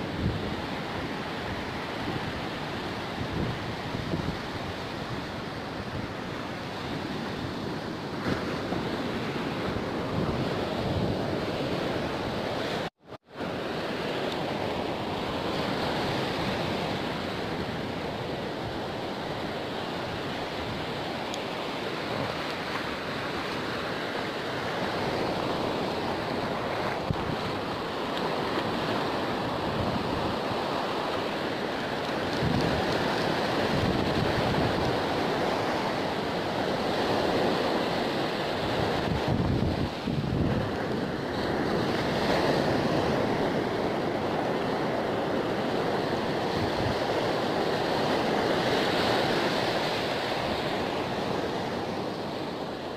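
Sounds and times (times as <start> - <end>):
wind buffeting microphone: 0.0 - 12.9, 14.4 - 31.1, 31.8 - 52.4
ocean surf breaking on beach: 0.0 - 52.9.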